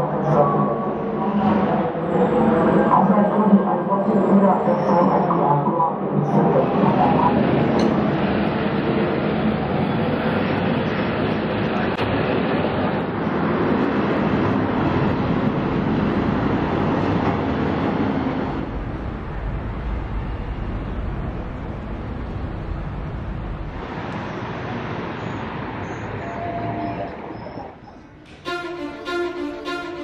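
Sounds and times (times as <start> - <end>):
road traffic roar: 5.4 - 30.0
street noise rumble: 5.4 - 30.0.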